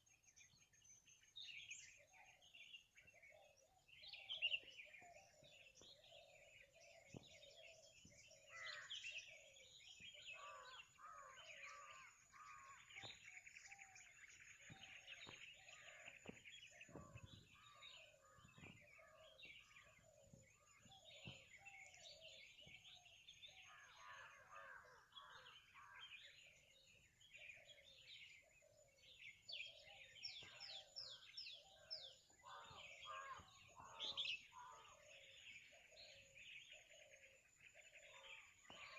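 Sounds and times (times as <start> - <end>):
birds chirping and trilling: 0.0 - 38.9
repeated lower bird calls: 1.9 - 38.9.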